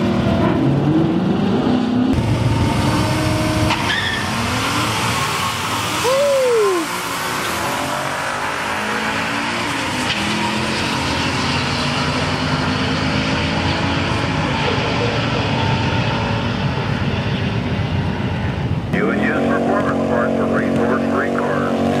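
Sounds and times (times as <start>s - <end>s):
cars racing at full throttle: 0.0s - 22.0s.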